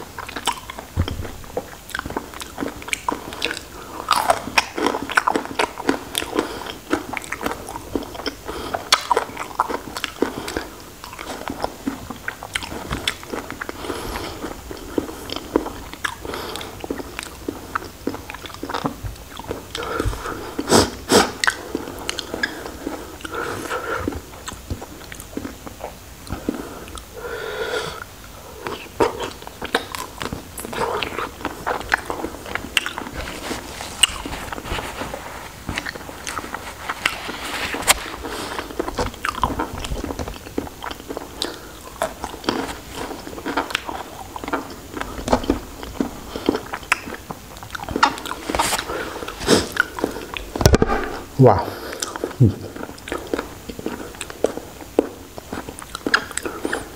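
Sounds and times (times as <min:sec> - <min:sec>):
wet chewing and crunching: 0:00.0 - 0:27.2, 0:28.0 - 0:51.2, 0:51.8 - 0:56.9.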